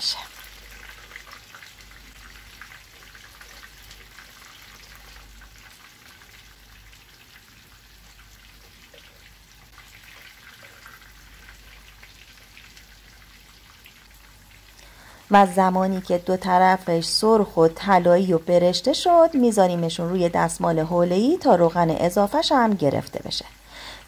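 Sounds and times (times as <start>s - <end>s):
hot oil sizzling and crackling: 0.0s - 24.0s.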